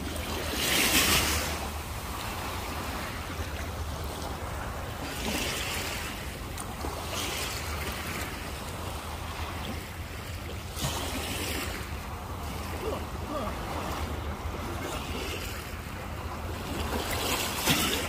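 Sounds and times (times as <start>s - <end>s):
sea water lapping: 0.0s - 18.0s.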